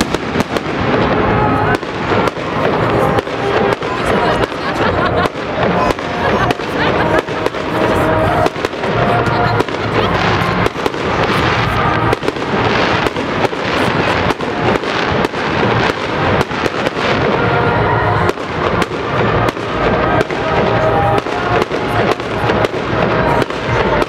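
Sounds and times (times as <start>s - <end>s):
fireworks bangs: 0.0s - 24.0s
fireworks crackle: 0.0s - 24.0s.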